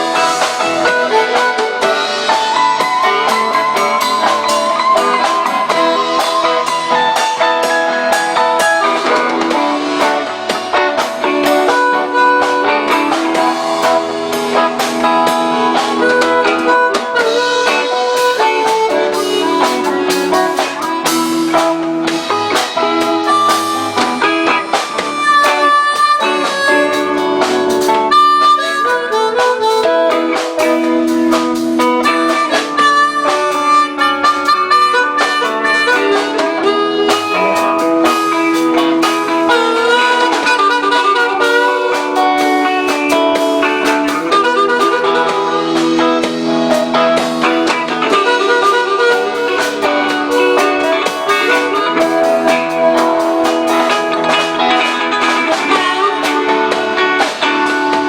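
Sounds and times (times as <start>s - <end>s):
blues-rock band playing: 0.0s - 58.0s
harmonica solo with bending notes: 0.0s - 58.0s.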